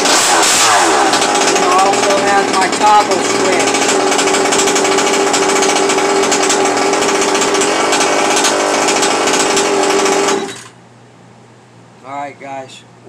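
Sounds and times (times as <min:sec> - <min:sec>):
small engine buzzing: 0:00.0 - 0:10.8.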